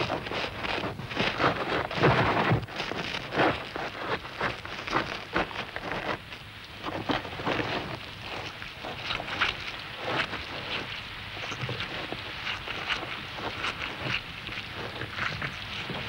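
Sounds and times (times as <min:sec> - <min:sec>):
gritty crackling over dry soil: 0:00.0 - 0:16.0.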